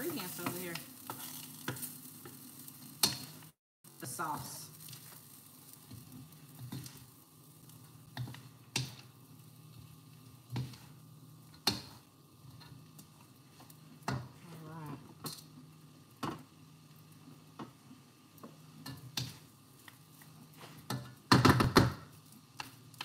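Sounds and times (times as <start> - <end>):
faint sizzle from pan: 0.0 - 23.0.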